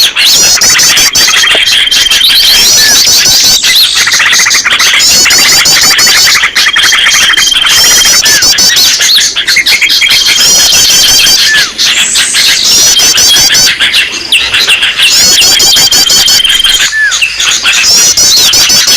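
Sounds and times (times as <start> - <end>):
high-pitched bird trill: 0.0 - 18.9
small birds chirping and trilling: 0.0 - 18.9.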